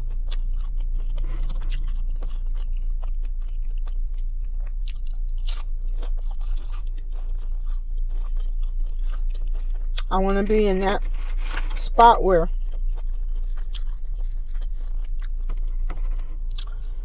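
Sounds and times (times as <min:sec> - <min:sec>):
chewing and crunching: 0:00.0 - 0:17.0.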